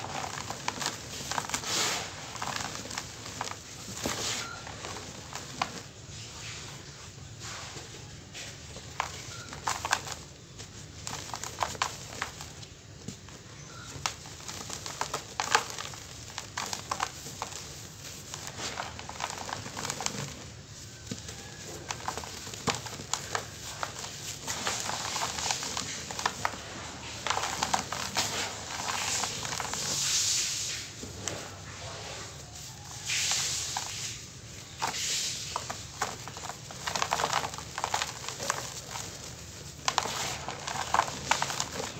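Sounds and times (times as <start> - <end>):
cement chunks crunching by hand: 0.0 - 6.0, 8.3 - 41.9
crumbs pattering onto powder: 0.0 - 41.9.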